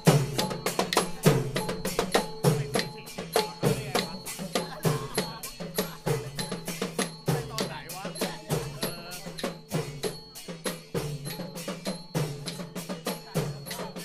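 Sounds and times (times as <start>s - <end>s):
ringing small cymbals: 0.0s - 14.0s.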